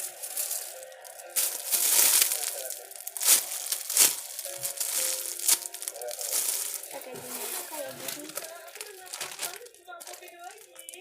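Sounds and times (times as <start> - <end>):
plastic packaging crinkling: 0.0 - 11.0
sharp plastic crackles: 0.0 - 11.0.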